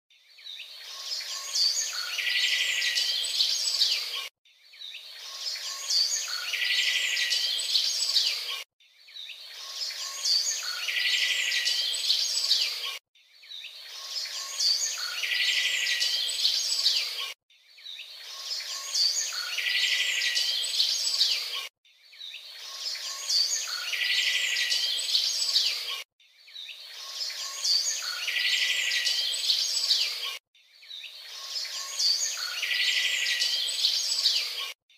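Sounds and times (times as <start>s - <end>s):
birds chirping with buzzing trill: 0.3s - 34.8s.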